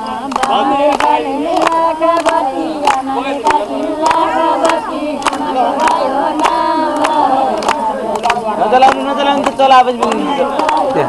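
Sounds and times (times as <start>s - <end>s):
group of voices chanting: 0.0s - 11.0s.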